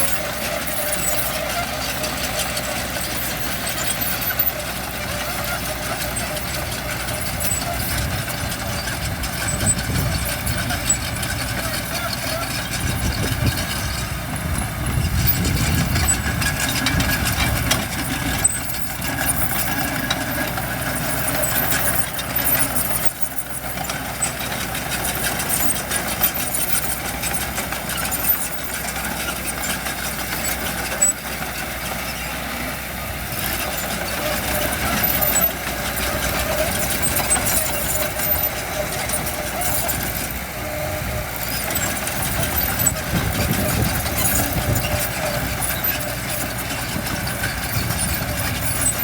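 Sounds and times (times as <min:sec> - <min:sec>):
diesel engines running: 0:00.0 - 0:49.0.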